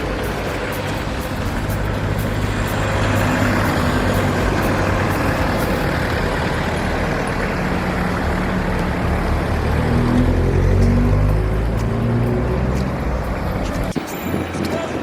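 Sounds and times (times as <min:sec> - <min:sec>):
large vehicle engine hum: 0:00.0 - 0:15.0
road noise: 0:00.0 - 0:15.0.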